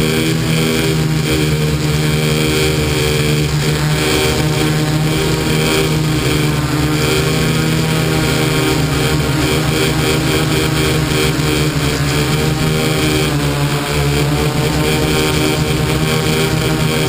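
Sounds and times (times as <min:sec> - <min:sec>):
drone propellers droning: 0:00.0 - 0:17.0.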